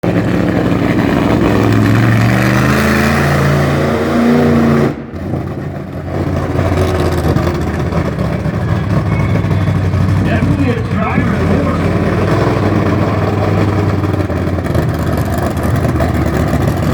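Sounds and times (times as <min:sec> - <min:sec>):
monster truck engine revving: 0:00.0 - 0:16.9.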